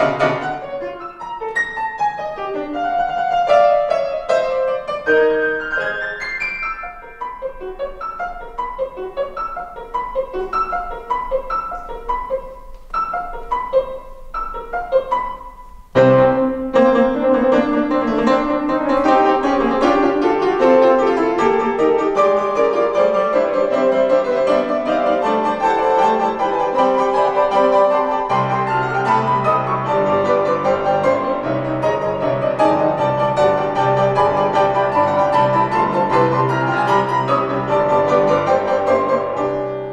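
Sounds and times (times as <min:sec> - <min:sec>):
piano four hands: 0:00.0 - 0:39.9.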